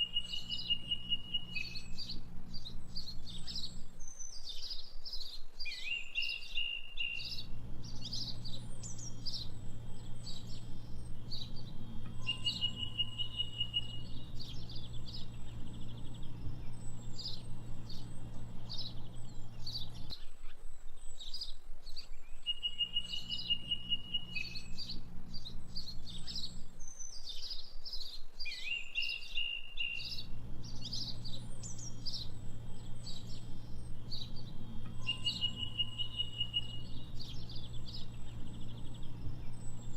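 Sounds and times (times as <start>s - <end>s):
birds chirping and trilling: 0.0s - 39.9s
low steady hum: 0.0s - 39.9s.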